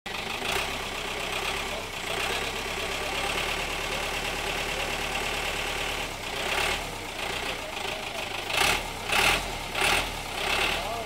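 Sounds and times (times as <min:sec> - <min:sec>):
engine idling: 0:00.1 - 0:11.0.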